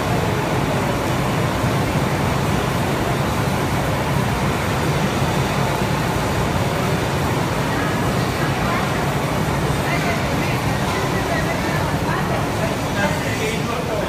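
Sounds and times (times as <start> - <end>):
barn machinery drone: 0.0 - 14.0.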